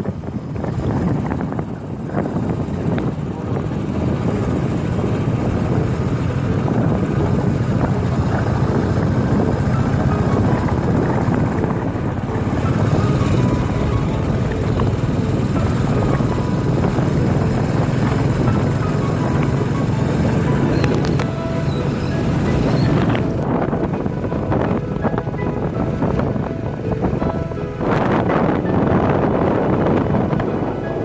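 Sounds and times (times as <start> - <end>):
motorbike engine and road noise: 0.0 - 31.0.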